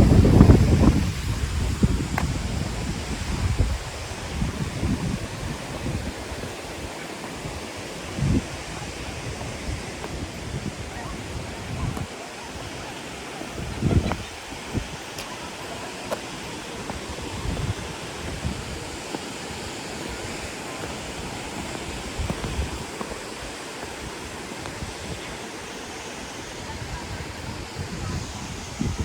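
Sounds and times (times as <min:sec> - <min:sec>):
waterfall rushing: 0:00.0 - 0:29.0
wind buffeting microphone: 0:00.0 - 0:29.0.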